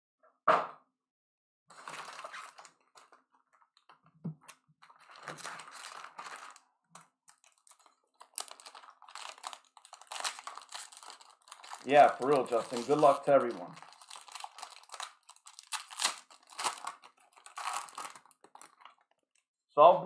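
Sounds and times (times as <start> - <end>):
foil wrappers crinkling: 1.7 - 4.0, 4.8 - 19.4.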